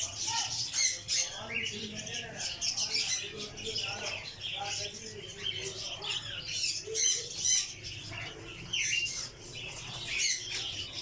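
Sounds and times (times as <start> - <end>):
caged birds chirping and squawking: 0.0 - 11.0.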